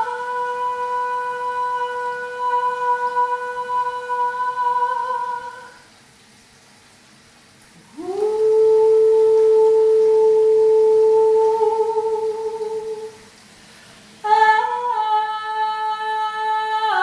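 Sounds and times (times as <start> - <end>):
woman singing long notes: 0.0 - 5.8, 7.8 - 13.3, 14.2 - 17.0.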